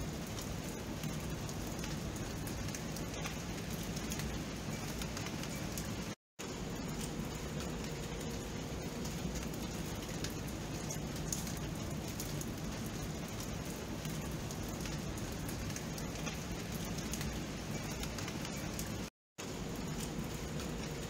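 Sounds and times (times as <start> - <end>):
rain falling steadily: 0.0 - 21.0.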